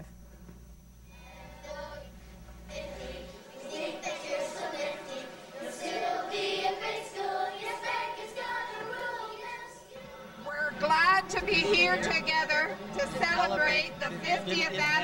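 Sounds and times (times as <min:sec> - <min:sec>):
children's choir singing: 0:01.1 - 0:15.0.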